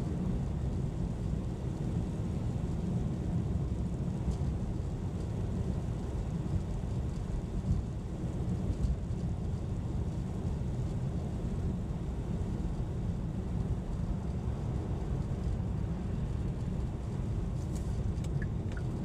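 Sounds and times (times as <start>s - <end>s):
car tyre and engine rumble: 0.0s - 19.0s.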